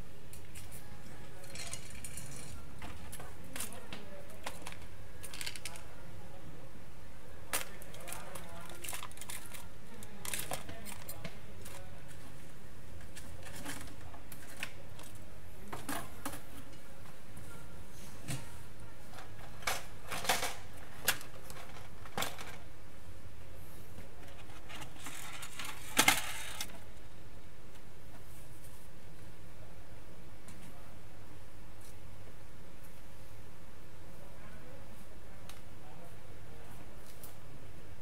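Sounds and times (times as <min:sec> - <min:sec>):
steady background hum: 0:00.0 - 0:38.0.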